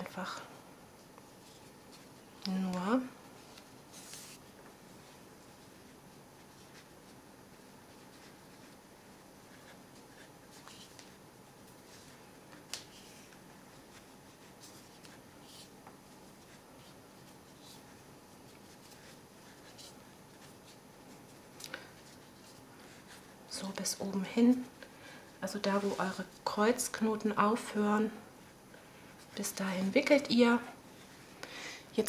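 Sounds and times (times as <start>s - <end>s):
cord rubbing and rustling: 0.9s - 26.6s.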